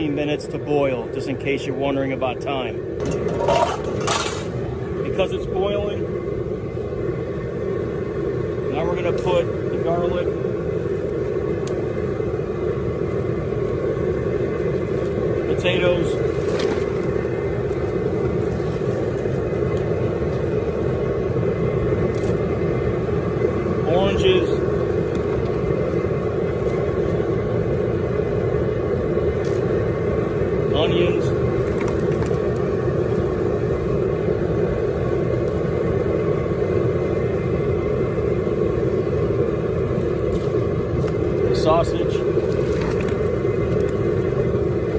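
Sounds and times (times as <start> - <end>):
propane burner roaring: 0.0 - 44.9.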